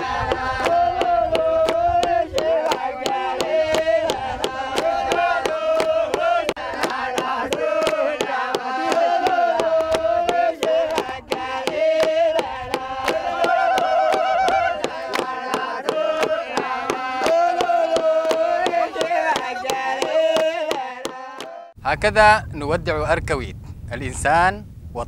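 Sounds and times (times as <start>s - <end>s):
men singing together: 0.0s - 21.8s
rhythmic hand clapping: 0.0s - 21.8s.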